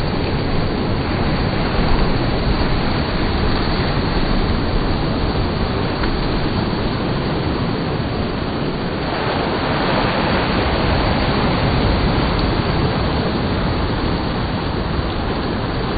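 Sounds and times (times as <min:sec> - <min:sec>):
small waves washing on beach: 0:00.0 - 0:15.9.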